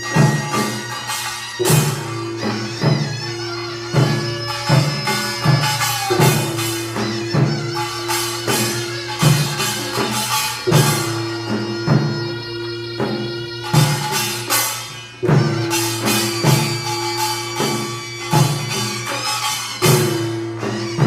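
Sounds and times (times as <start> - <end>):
drum beats: 0.0 - 21.0
shawm holding long notes: 0.0 - 21.0
small gong: 0.0 - 21.0.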